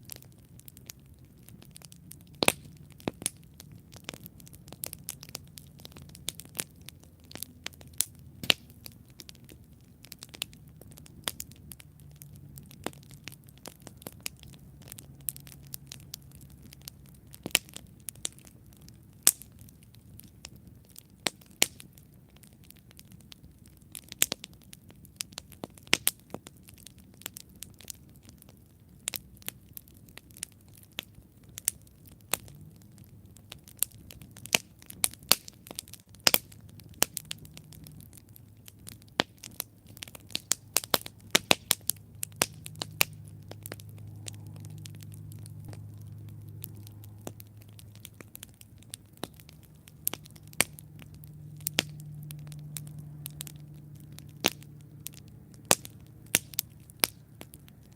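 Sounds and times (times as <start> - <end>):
campfire crackling and snapping: 0.0 - 57.9
low steady hum: 0.0 - 57.9.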